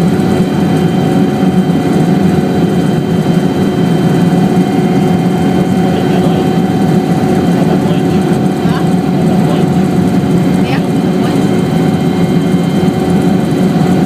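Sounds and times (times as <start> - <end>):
constant whining tones: 0.0 - 14.0
helicopter engine and rotor: 0.0 - 14.0.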